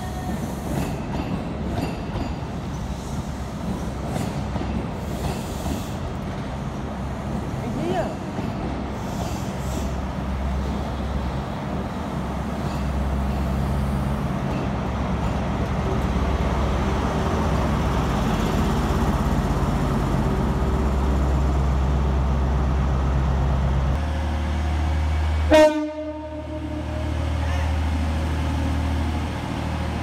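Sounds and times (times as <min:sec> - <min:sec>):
train coaches rolling rumble: 0:00.0 - 0:30.0.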